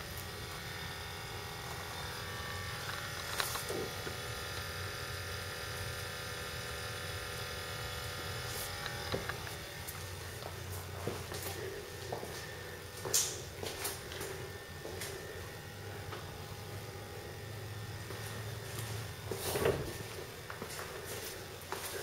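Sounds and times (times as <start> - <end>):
small electric pump buzzing: 0.0 - 22.0.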